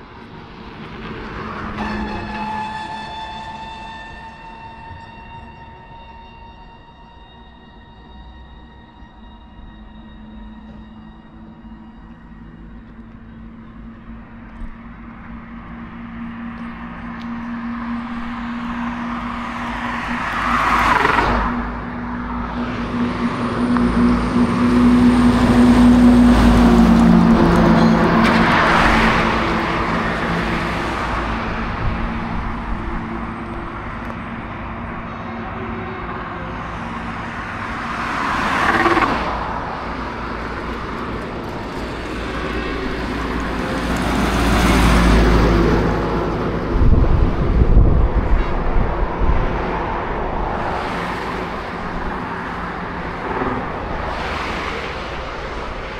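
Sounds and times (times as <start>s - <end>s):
low engine hum: 3.4s - 55.9s
vehicle passing: 9.6s - 55.9s.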